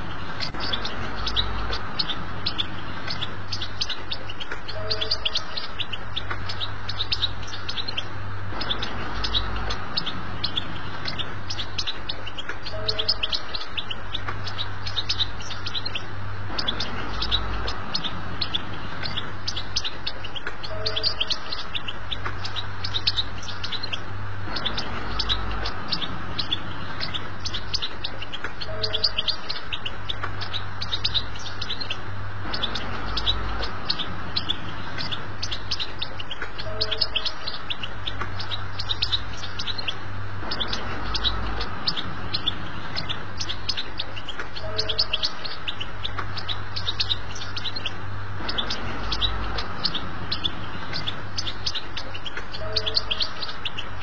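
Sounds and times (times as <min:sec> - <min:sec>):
goldfinch twittering song: 0:00.0 - 0:54.0
low hum: 0:00.0 - 0:54.0.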